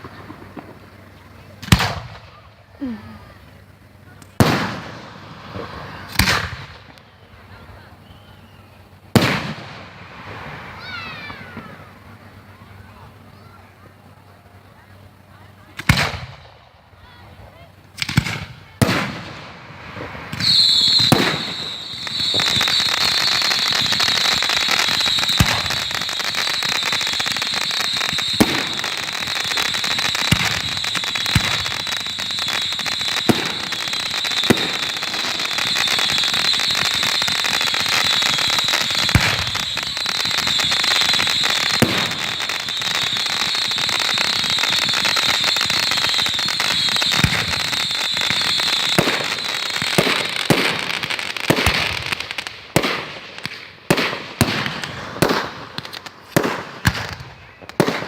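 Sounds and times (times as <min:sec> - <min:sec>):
fireworks sharp bangs: 0:00.0 - 0:07.0, 0:08.9 - 0:14.0, 0:15.7 - 0:16.8, 0:17.9 - 0:58.0
fireworks crackling: 0:00.0 - 0:58.0.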